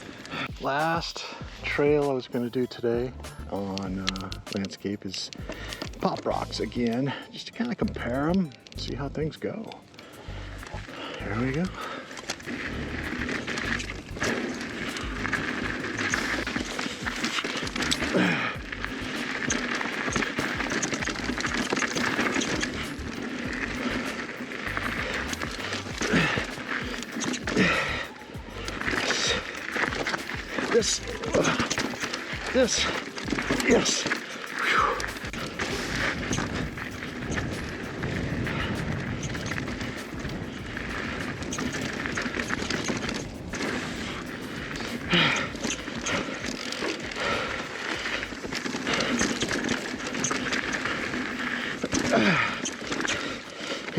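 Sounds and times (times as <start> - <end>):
wind noise on microphone: 0.0 - 7.2, 10.1 - 53.4
bike clattering and rattling: 0.0 - 53.9
tyres crunching over dirt: 0.0 - 53.9.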